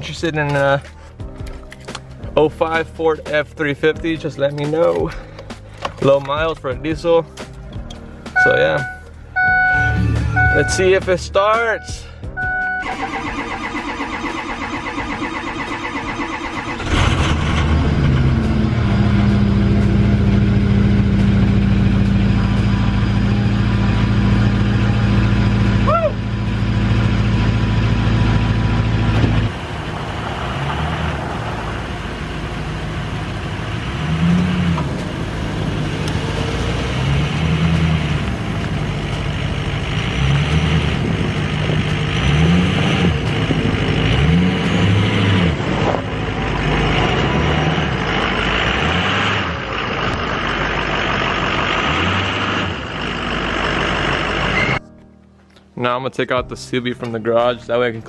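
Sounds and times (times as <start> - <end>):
diesel engine idling and revving: 0.0 - 54.9
diesel engine cranking: 0.0 - 55.0.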